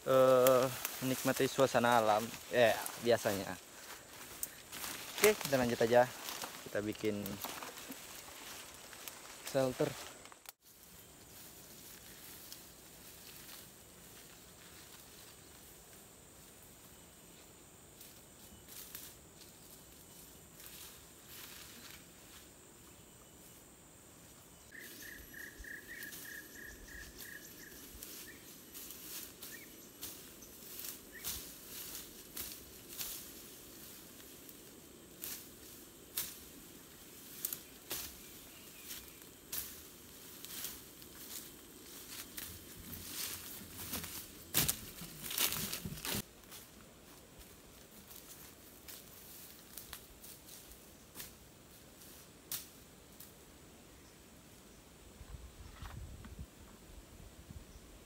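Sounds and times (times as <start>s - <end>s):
rustling undergrowth footsteps: 0.0s - 53.4s
faint high insect drone: 0.0s - 58.0s.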